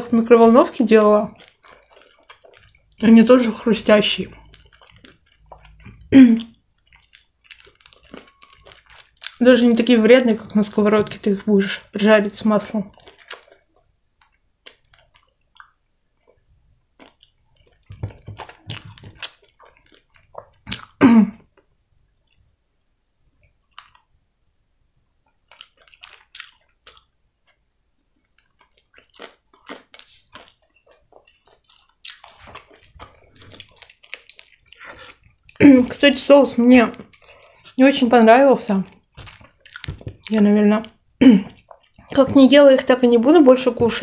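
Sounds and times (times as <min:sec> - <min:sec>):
chewing crispy food: 0:00.0 - 0:44.0
wet mouth sounds and crunches: 0:00.2 - 0:11.3, 0:12.3 - 0:21.0, 0:22.3 - 0:24.1, 0:25.2 - 0:44.0.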